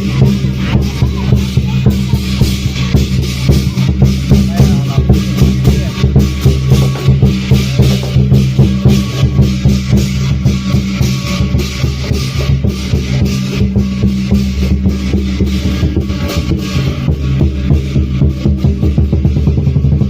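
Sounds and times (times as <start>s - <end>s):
fast steady drum beat: 0.0s - 20.0s.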